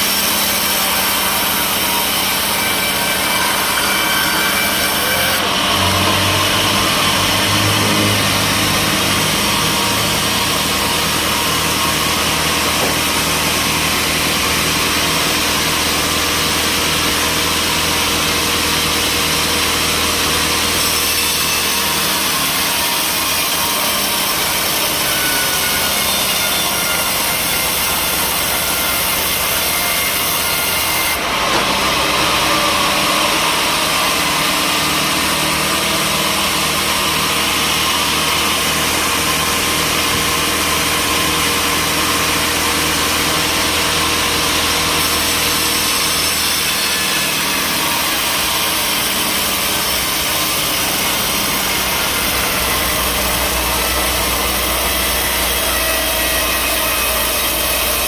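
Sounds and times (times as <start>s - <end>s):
sawmill saw cutting timber: 0.0s - 58.0s.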